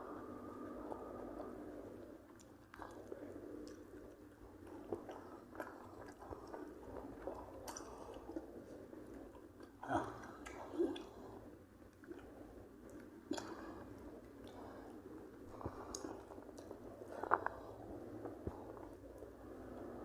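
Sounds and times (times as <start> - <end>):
person chewing food: 0.1 - 20.0.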